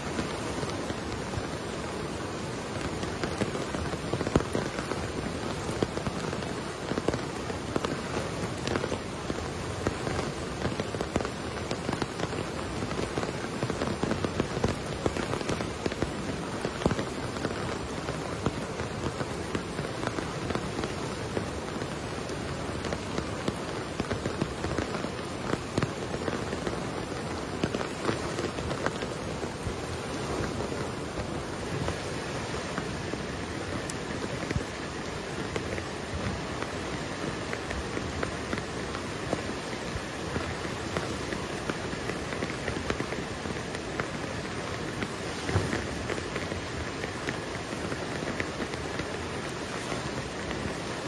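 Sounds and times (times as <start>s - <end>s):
heavy rain on standing water: 0.0s - 51.0s.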